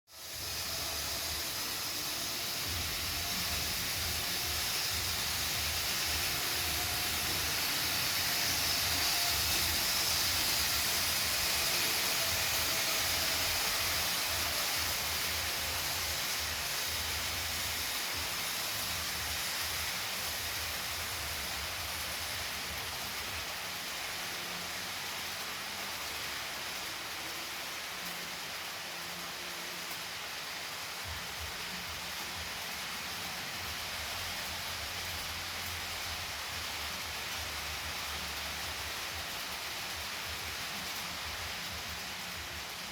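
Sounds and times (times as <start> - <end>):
faint motor whine: 0.1 - 42.9
model train wheels rumbling on track: 0.1 - 42.9.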